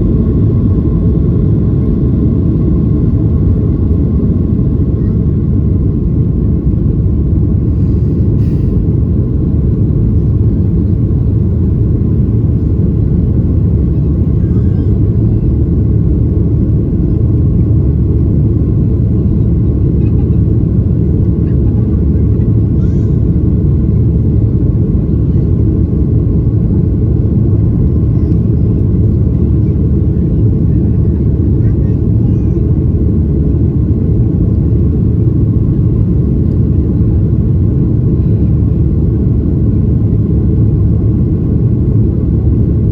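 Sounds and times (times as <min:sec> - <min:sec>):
airflow over fuselage: 0:00.0 - 0:42.9
jet engines in aircraft cabin: 0:00.0 - 0:42.9.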